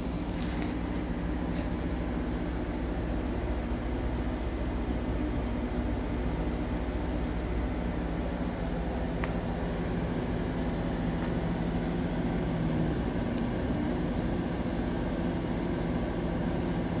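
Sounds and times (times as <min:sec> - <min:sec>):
laser engraver whirring hum: 0:00.0 - 0:17.0.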